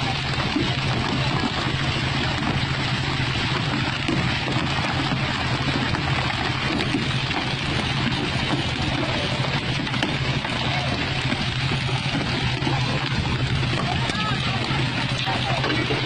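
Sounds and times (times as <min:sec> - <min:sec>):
boat engine running: 0:00.0 - 0:16.0
rushing water: 0:00.0 - 0:16.0.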